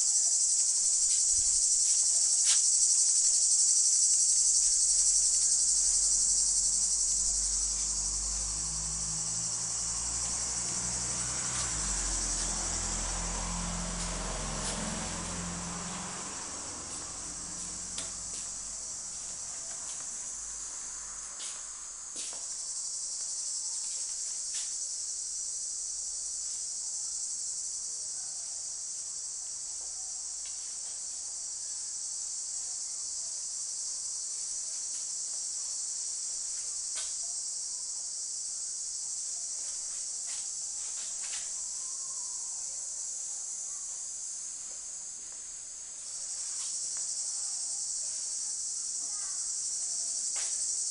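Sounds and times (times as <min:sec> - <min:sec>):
cicadas droning: 0:00.0 - 0:50.9.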